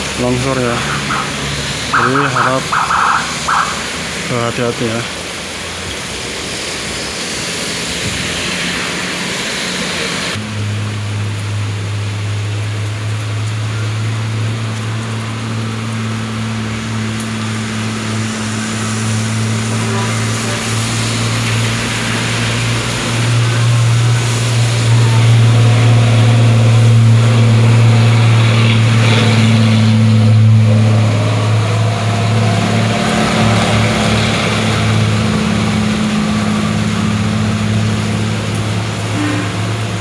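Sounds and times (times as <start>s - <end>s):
heavy rain hissing: 0.0s - 40.0s
heavy vehicle engine droning: 0.0s - 40.0s.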